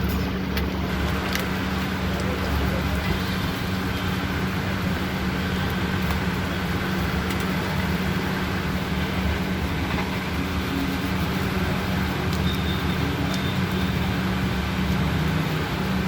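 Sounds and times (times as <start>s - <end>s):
constant hum: 0.0s - 16.0s
low traffic rumble: 0.0s - 16.0s.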